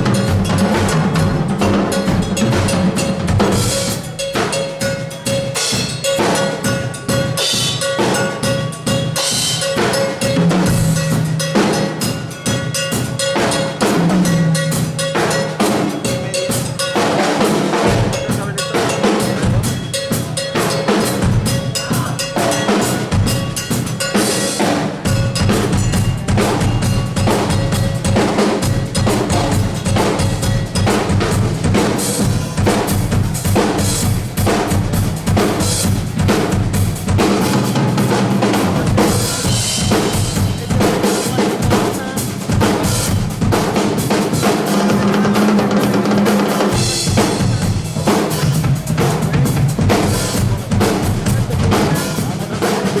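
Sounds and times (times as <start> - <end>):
fast drum kit playing: 0.0 - 53.0.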